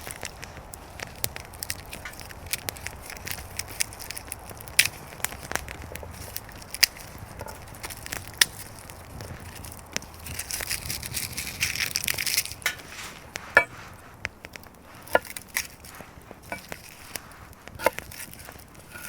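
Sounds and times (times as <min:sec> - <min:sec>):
dry wood crackling and snapping: 0:00.0 - 0:19.0.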